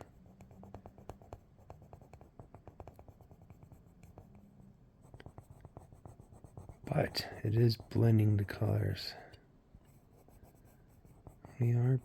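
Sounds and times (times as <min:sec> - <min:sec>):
colouring tool scratching on paper: 0:00.0 - 0:04.4, 0:05.0 - 0:08.7, 0:09.9 - 0:12.0.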